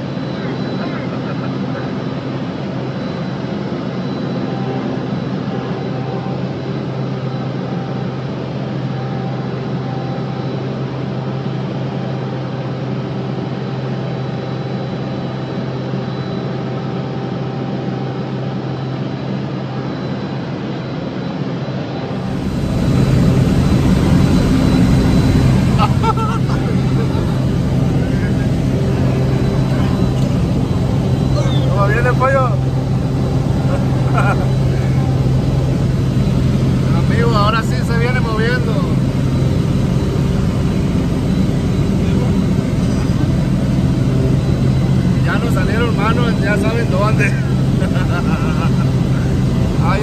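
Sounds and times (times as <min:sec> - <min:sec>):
light plane engine droning: 0:00.0 - 0:50.0.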